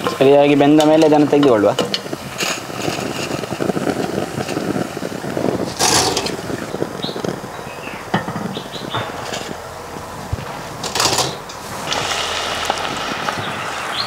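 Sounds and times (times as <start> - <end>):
skimmer scraping clatter: 0.0 - 7.4, 8.1 - 14.0
hot oil sizzling: 0.0 - 14.0.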